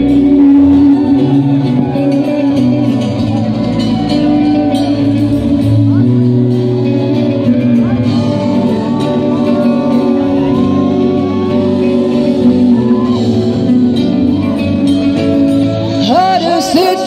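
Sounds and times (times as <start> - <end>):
amplified guitars: 0.0 - 17.0
bass line: 0.0 - 17.0
person singing: 0.0 - 17.0.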